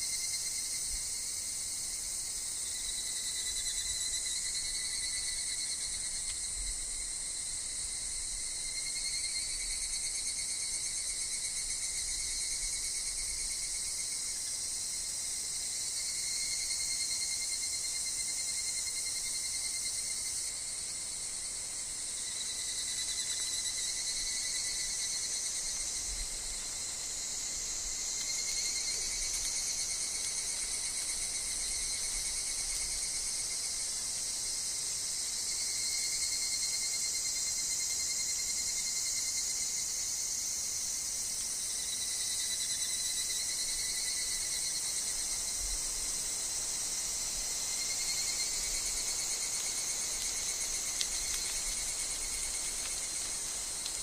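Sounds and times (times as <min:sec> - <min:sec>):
cicadas and insects chorus: 0:00.0 - 0:54.0.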